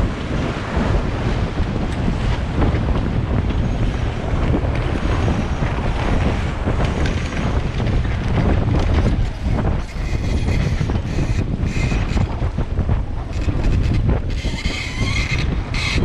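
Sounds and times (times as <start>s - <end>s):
choppy water slapping hull: 0.0s - 16.0s
wind buffeting microphone: 0.0s - 16.0s.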